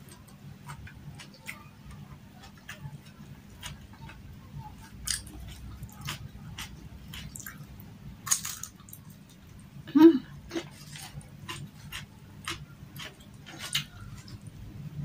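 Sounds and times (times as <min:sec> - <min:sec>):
close chewing: 0:00.0 - 0:09.6, 0:10.5 - 0:14.6.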